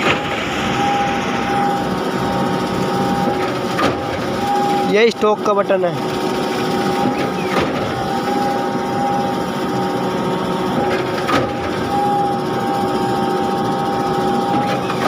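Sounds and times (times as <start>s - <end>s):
concrete pump engine humming: 0.0s - 15.0s.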